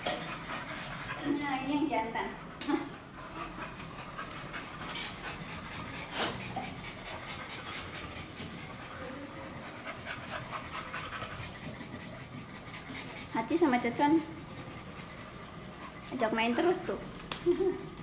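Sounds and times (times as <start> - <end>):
dogs panting: 0.0 - 18.0.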